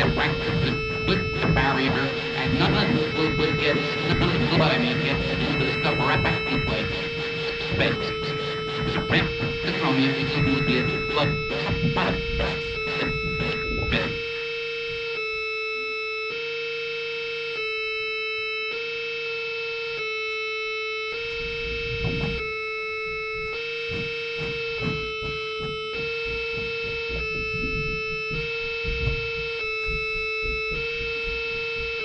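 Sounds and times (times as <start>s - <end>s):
electronic drone: 0.0s - 15.3s, 21.0s - 32.0s.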